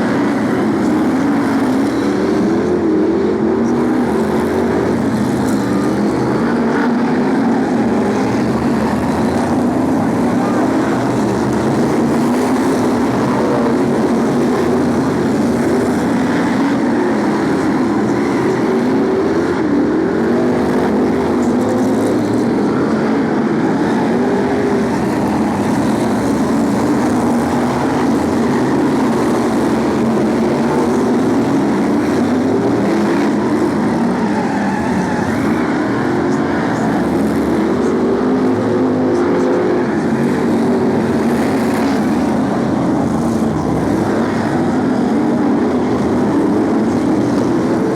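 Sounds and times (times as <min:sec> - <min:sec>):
racing car engines: 0:00.0 - 0:47.9.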